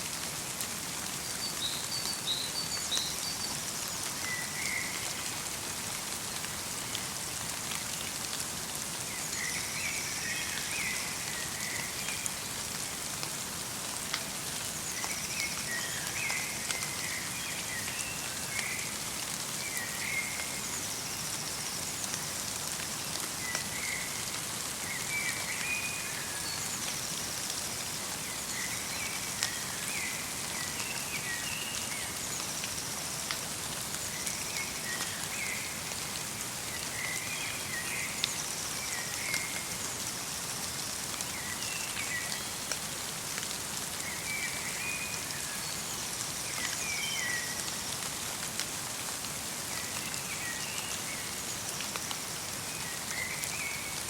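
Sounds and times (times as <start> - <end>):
light rain: 0.0 - 54.0
raindrops ticking on surfaces: 0.0 - 54.0.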